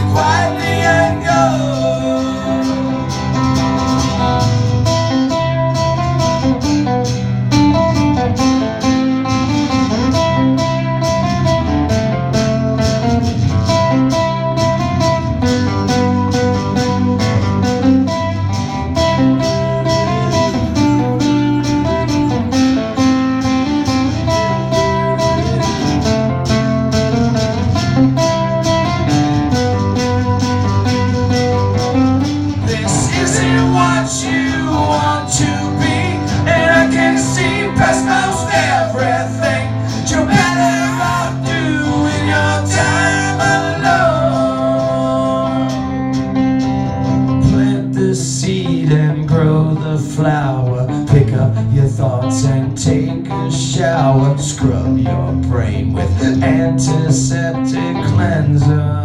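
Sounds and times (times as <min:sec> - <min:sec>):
acoustic guitars strumming: 0:00.0 - 0:59.0
bending guitar lead melody: 0:00.0 - 0:59.0.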